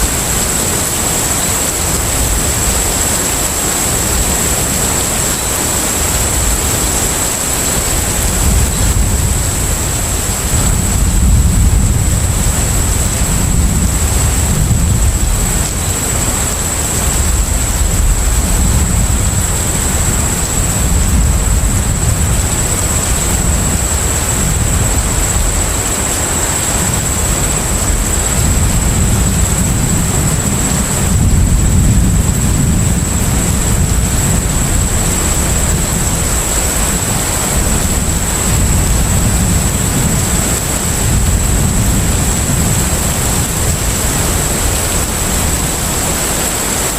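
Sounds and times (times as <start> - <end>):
ship engine rumble: 0.0 - 46.9.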